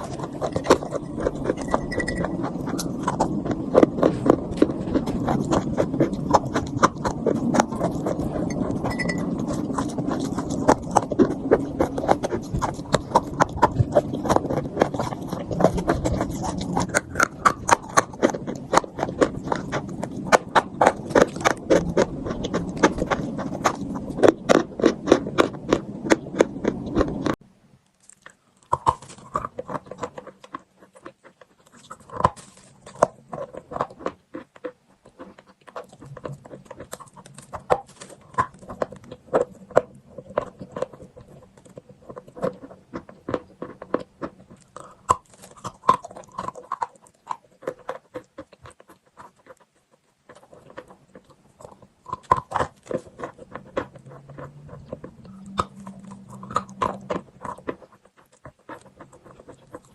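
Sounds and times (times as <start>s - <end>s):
chewing chalk crunches: 0.0s - 59.9s.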